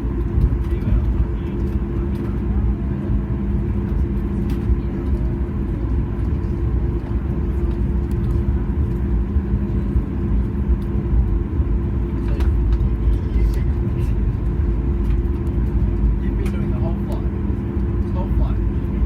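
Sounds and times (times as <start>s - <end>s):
low machine rumble: 0.0s - 19.0s.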